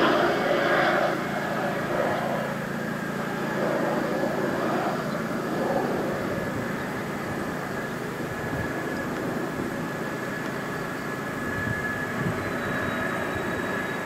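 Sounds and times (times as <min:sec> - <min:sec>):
fighter jet engines droning: 0:00.0 - 0:14.0.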